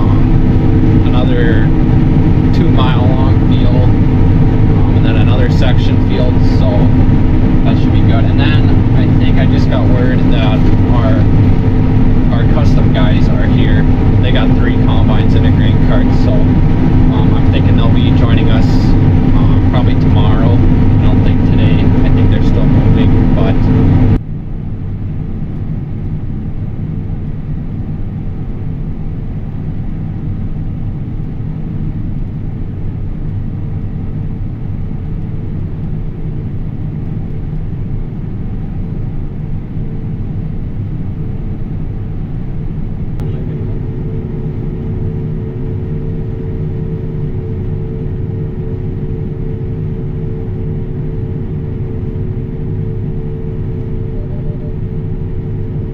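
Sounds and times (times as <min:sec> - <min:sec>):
harvest machinery engine rumble: 0:00.0 - 0:55.9
steady whine: 0:00.0 - 0:55.9.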